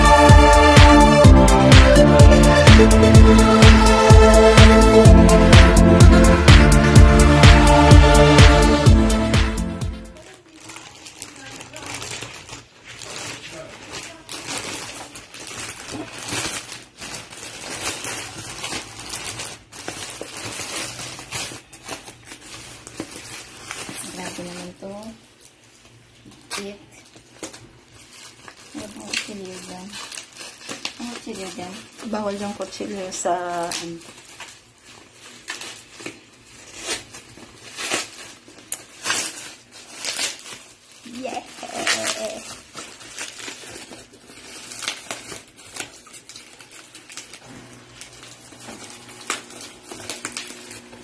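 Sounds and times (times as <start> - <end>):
plastic packaging crinkling: 9.8 - 51.0.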